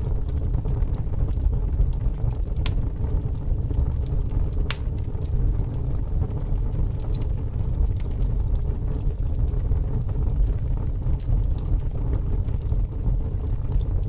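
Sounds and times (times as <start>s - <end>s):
fire crackles and pops: 0.0s - 14.0s
fire rumbling: 0.0s - 14.0s.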